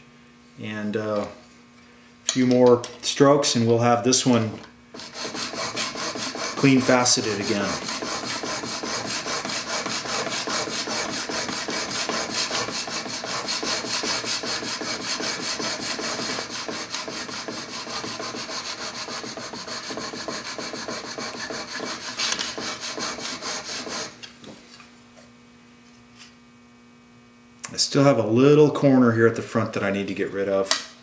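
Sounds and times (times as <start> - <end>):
faint hum: 0.0 - 31.0.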